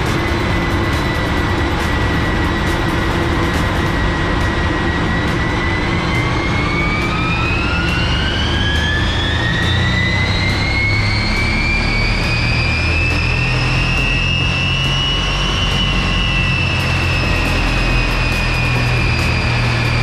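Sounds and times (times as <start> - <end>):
diesel engine under full load: 0.0 - 20.0
high whine rising in pitch: 0.0 - 20.0.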